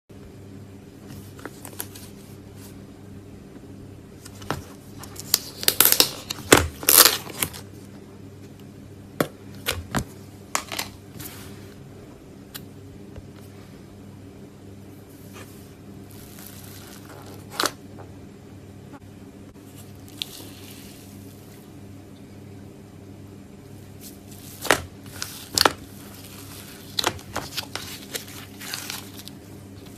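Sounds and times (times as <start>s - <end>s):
low electrical hum: 0.1s - 29.9s.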